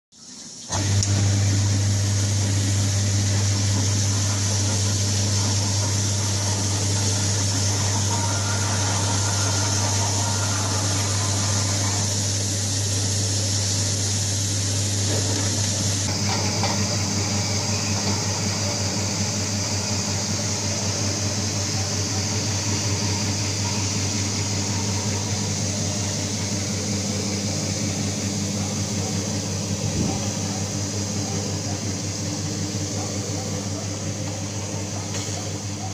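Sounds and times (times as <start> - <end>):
machine electric hum: 0.2 - 35.9
water spraying hiss: 6.4 - 35.5.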